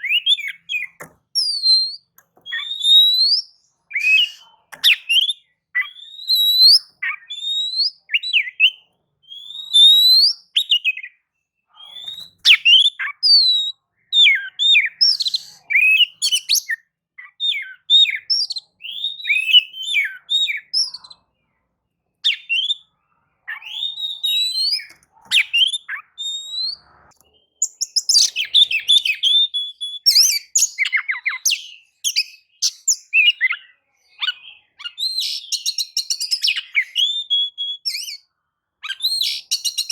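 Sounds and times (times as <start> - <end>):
songbird whistling and chattering: 0.0 - 21.2, 22.2 - 39.9.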